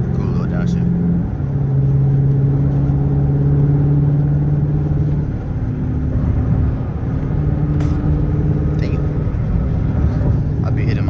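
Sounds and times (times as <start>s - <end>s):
loud car exhaust while driving: 0.0s - 11.0s.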